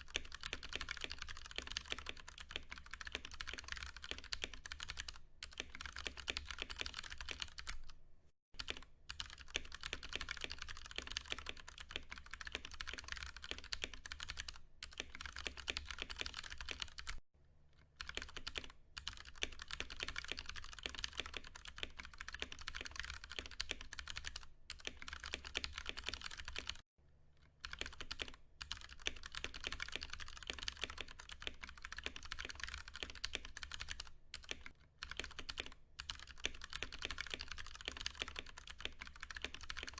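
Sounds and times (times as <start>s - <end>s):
fast typing on mechanical keyboard: 0.0s - 8.0s, 8.6s - 17.2s, 18.0s - 26.8s, 27.6s - 39.9s.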